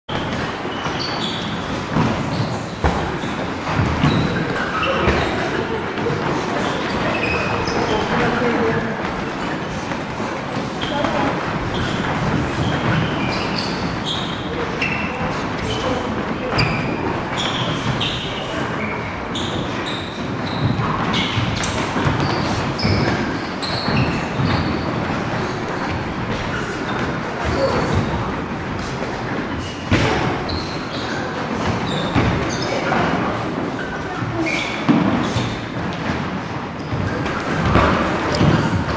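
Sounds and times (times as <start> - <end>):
shoes squeaking on wooden floor: 0.1 - 38.9.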